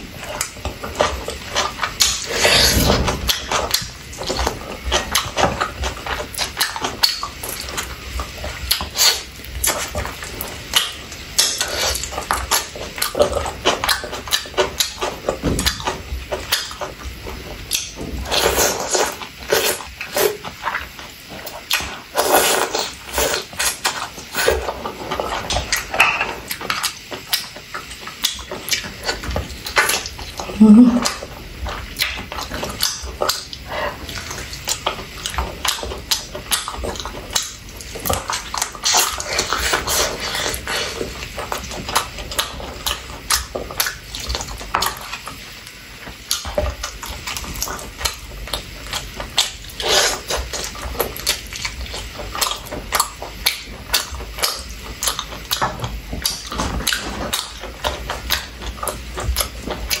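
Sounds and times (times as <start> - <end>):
chewing with wet mouth clicks: 0.1 - 60.0.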